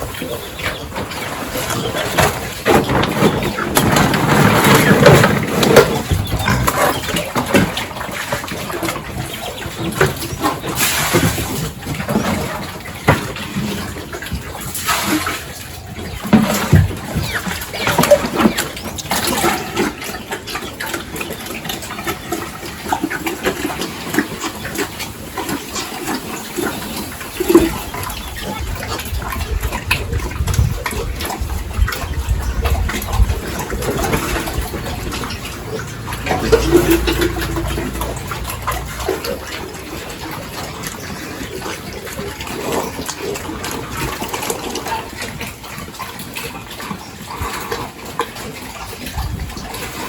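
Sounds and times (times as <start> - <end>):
pigs grunting: 0.0 - 50.0.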